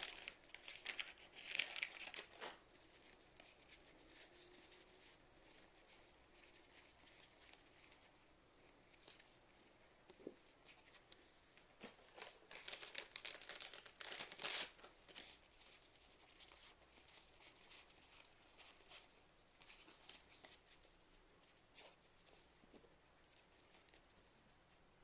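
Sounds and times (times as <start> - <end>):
plastic packaging rustling: 0.0 - 9.6, 10.2 - 21.0.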